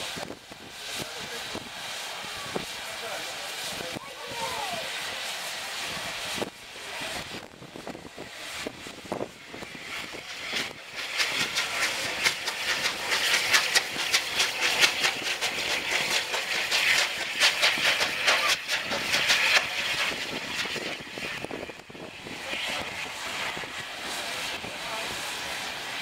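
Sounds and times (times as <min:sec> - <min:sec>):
steam hiss: 0:00.0 - 0:26.0
steam locomotive exhaust beats: 0:00.0 - 0:26.0.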